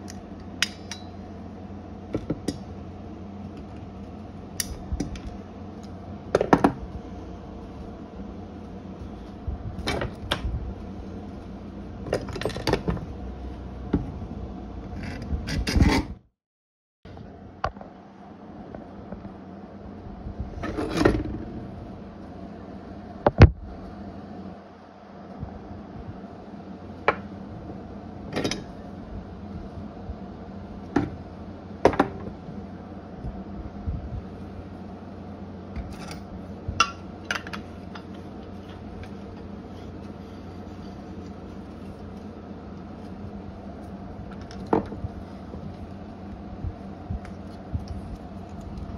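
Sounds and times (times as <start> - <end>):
steady low hum: 0.0 - 16.3, 17.1 - 48.9.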